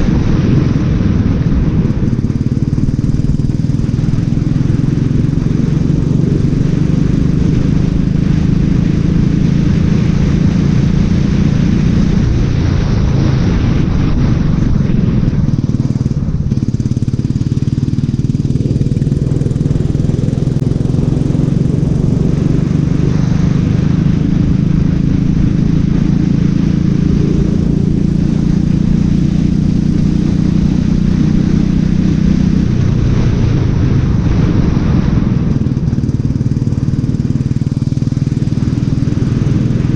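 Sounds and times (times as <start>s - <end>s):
kart engine buzzing: 0.0s - 39.9s.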